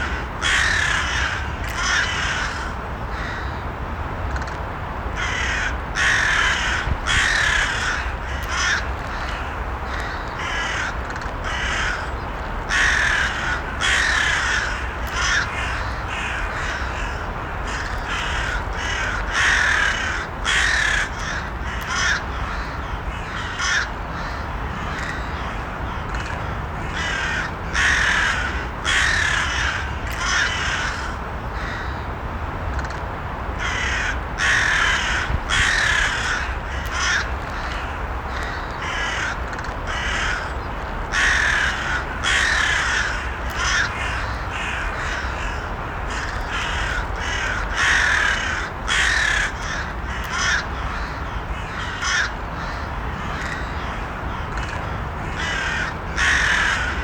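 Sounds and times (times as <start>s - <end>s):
crows cawing: 0.0s - 3.6s, 5.2s - 32.1s, 33.6s - 57.0s.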